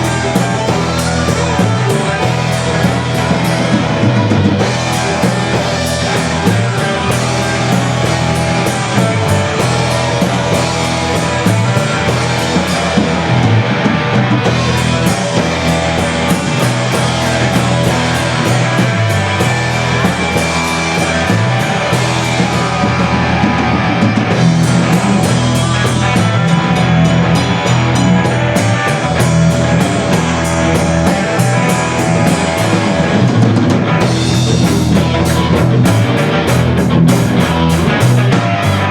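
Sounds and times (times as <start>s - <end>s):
drum kit steady beat: 0.0s - 38.9s
electric guitar: 0.0s - 38.9s.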